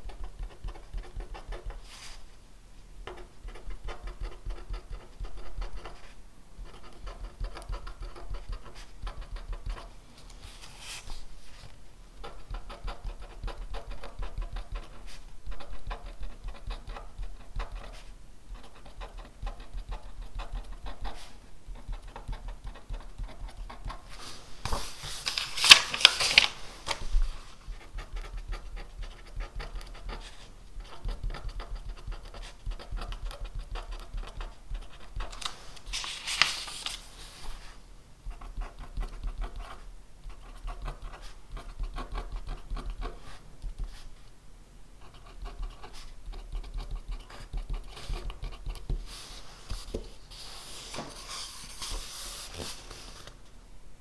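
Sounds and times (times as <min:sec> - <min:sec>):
pen scratching on paper: 0:00.0 - 0:02.2, 0:03.1 - 0:25.2, 0:27.0 - 0:37.7, 0:38.3 - 0:44.1, 0:45.0 - 0:53.3.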